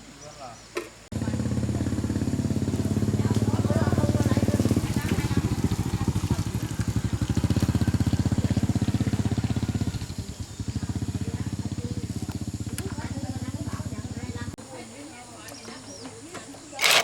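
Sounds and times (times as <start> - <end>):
tractor engine running: 1.1 - 14.6, 16.8 - 17.0.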